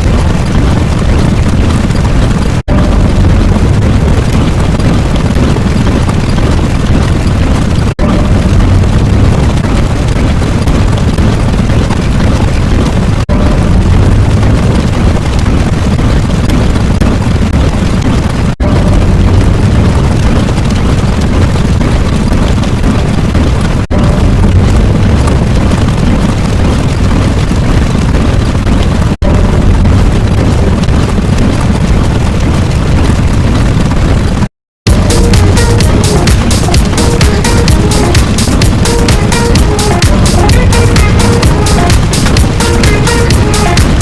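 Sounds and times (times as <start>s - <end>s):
loud low rumbling: 0.0s - 33.6s, 34.9s - 44.0s.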